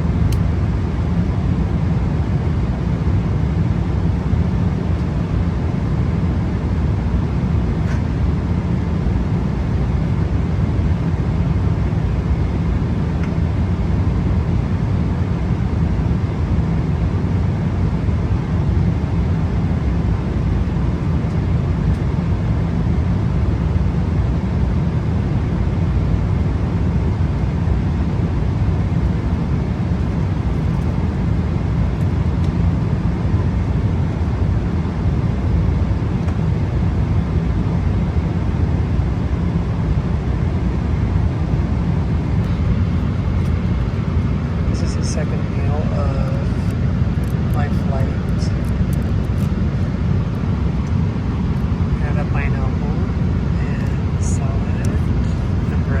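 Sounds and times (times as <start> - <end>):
airplane cabin noise: 0.0 - 56.0.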